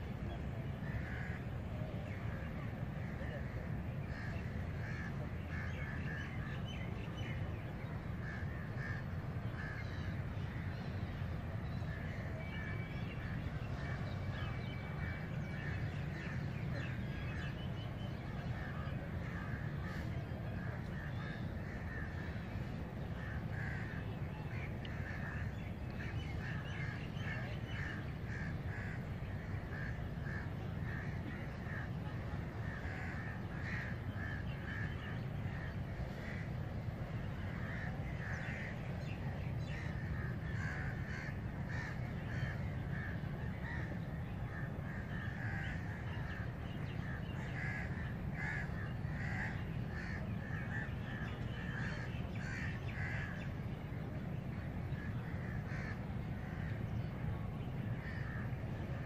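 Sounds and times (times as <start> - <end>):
low background rumble: 0.0 - 59.0
birds calling: 3.0 - 53.9, 54.5 - 57.1.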